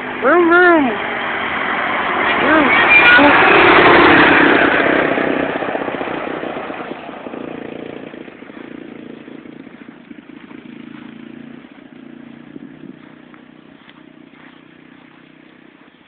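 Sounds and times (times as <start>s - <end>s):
atv engine driving away: 0.0s - 16.0s.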